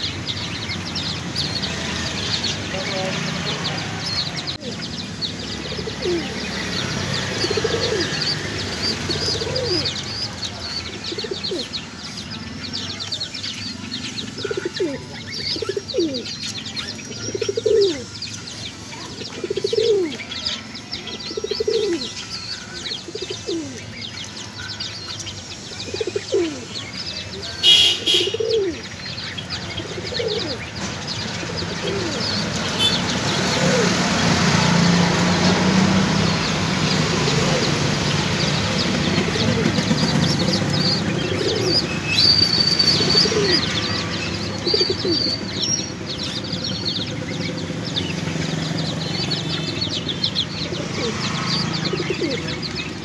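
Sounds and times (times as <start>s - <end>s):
small birds chirping: 0.0s - 53.0s
pigeons cooing: 1.1s - 11.8s, 14.2s - 18.2s, 19.1s - 20.5s, 21.1s - 22.2s, 22.9s - 24.3s, 25.8s - 26.8s, 27.6s - 53.0s.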